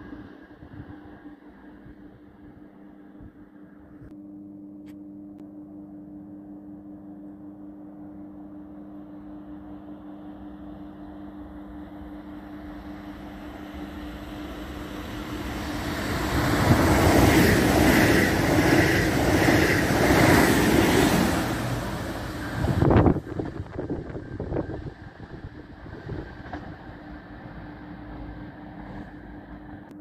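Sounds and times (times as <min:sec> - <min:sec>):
train passing at speed: 0:00.0 - 0:03.8, 0:08.7 - 0:29.9.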